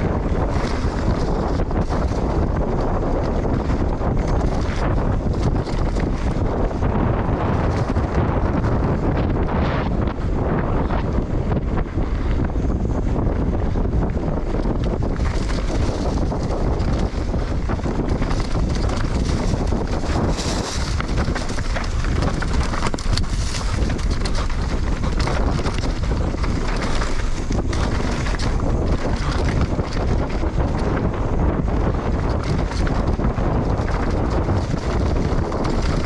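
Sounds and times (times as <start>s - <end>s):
bike rattles and knocks: 0.0s - 36.0s
wind buffeting microphone: 0.0s - 36.0s.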